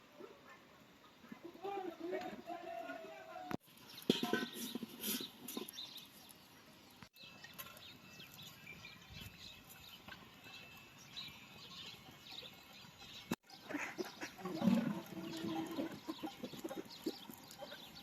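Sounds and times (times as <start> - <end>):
small birds chirping: 0.2 - 18.0.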